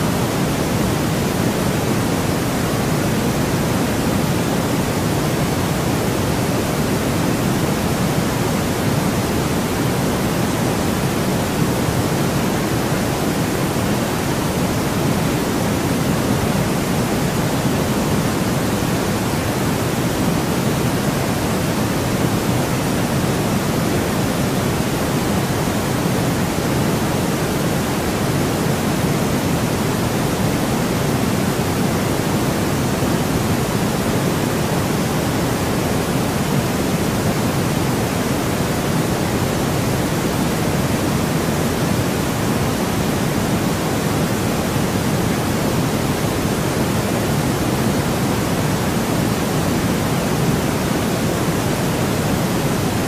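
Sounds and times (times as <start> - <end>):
steady pink noise: 0.0 - 53.0.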